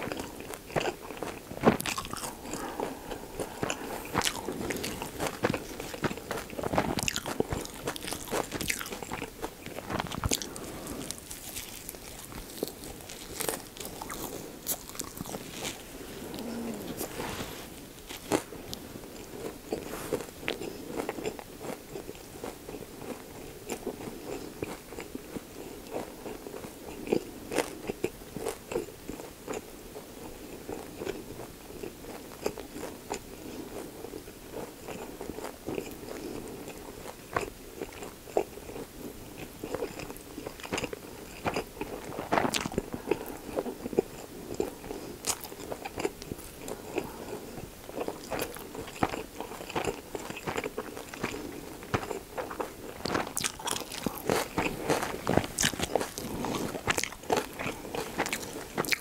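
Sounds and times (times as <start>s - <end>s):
close chewing with crunches: 0.0s - 59.0s.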